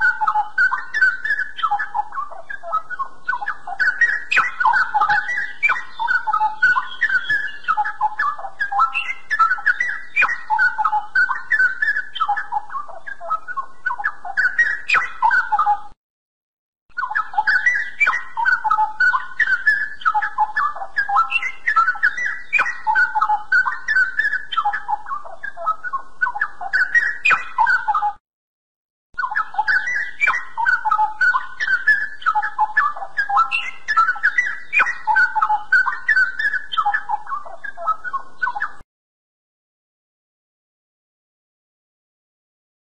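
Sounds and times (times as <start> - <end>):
bird singing warbled whistles: 0.0 - 16.0, 16.9 - 28.2, 29.2 - 38.8.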